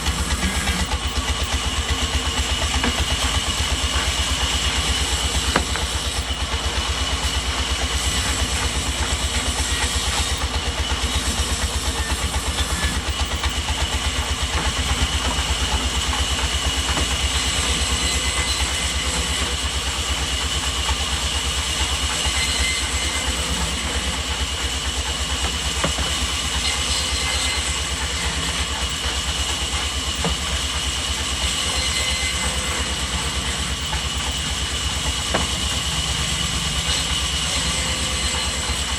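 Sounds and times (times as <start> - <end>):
sawmill machinery throb and whine: 0.0 - 38.9.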